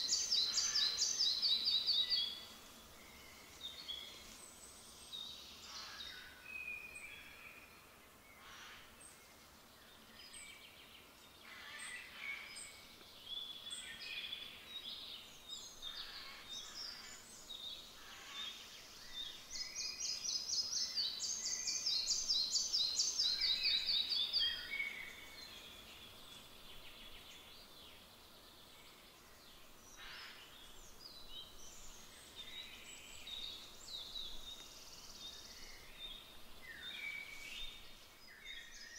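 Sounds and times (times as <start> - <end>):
faint forest birds calling: 0.0 - 38.9.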